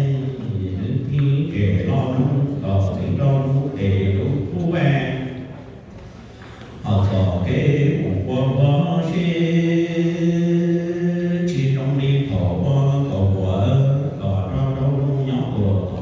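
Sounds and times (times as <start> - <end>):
man chanting in long held notes: 0.0 - 5.4, 6.8 - 16.0.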